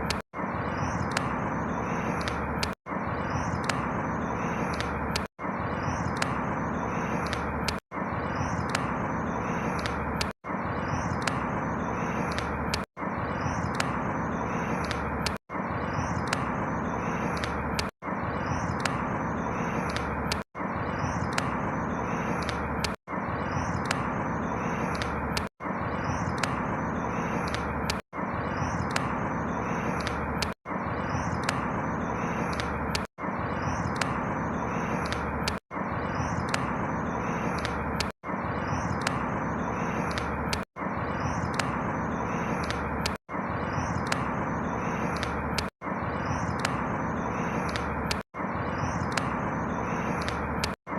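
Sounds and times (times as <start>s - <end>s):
rushing outdoor ambience: 0.0s - 50.9s.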